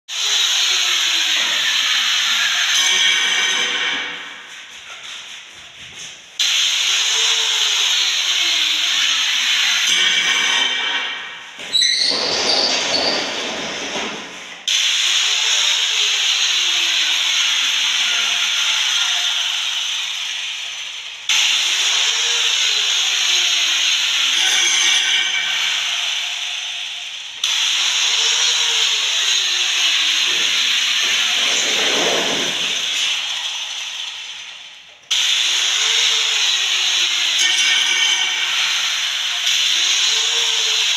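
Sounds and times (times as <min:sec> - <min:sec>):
loud steady hiss: 0:00.1 - 0:05.6, 0:06.3 - 0:11.6, 0:12.9 - 0:40.9.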